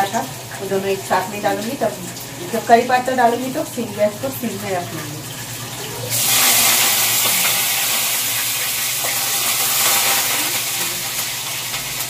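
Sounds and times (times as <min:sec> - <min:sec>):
leaves and garlic sizzling in oil: 0:00.0 - 0:12.0.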